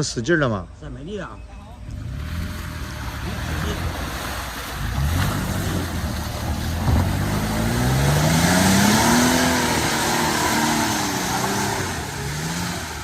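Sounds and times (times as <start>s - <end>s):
engine revving hard: 1.9s - 13.0s.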